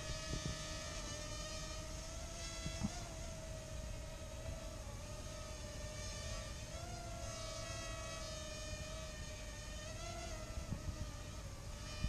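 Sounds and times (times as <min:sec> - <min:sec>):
quadcopter propellers whining: 0:00.0 - 0:12.0.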